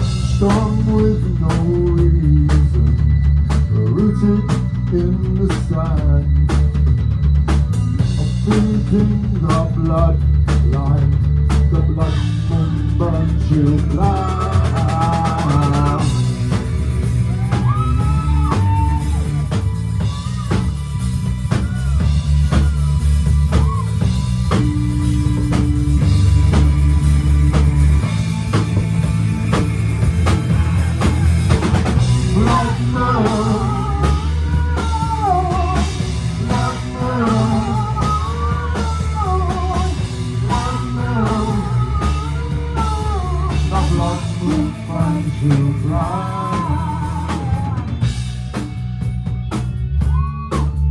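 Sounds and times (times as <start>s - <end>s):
wavering melodic lead line: 0.0s - 50.1s
heavy bass: 0.0s - 50.9s
rock band playing live: 0.0s - 50.9s
steady drum beat: 0.0s - 50.9s.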